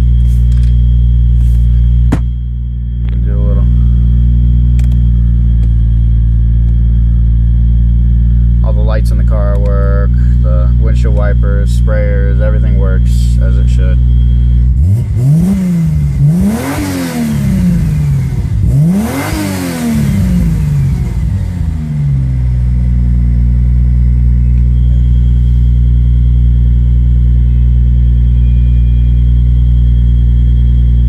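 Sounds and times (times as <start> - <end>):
car engine idling and revving: 0.0 - 31.0.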